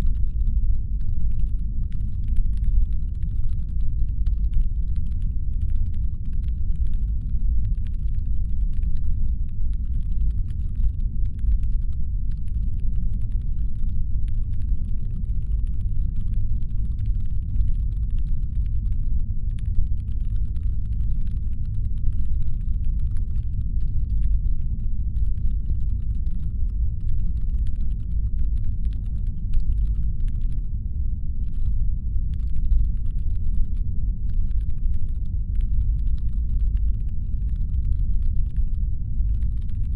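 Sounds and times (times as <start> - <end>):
faint irregular clicking: 0.0 - 30.7, 31.4 - 39.9.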